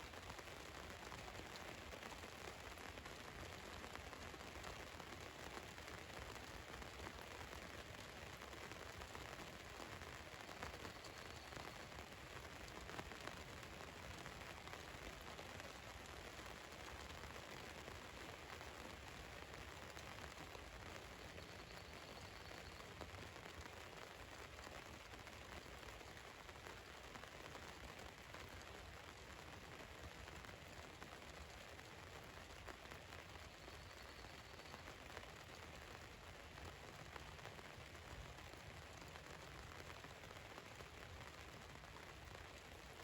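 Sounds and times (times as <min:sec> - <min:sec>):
rain pattering on vehicle roof: 0:00.0 - 0:43.0.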